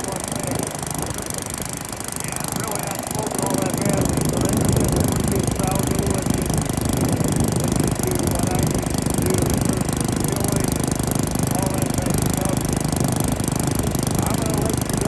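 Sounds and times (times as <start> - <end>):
tiller engine running: 0.0 - 15.0.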